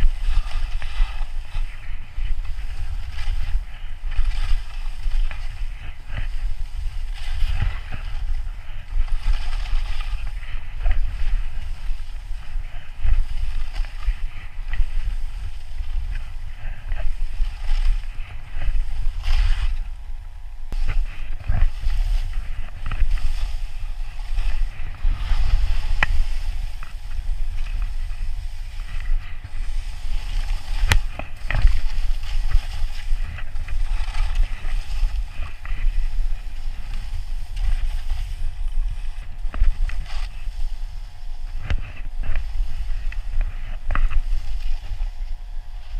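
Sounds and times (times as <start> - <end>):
skis scraping across snow: 0.0 - 45.9
wind rumble on microphone: 0.0 - 45.9.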